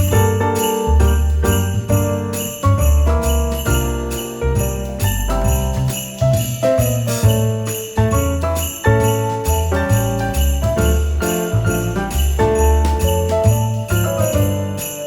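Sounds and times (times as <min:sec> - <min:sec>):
bouncing bass line: 0:00.0 - 0:15.0
sleigh bells jingling: 0:00.0 - 0:15.0
upbeat christmas music: 0:00.0 - 0:15.0.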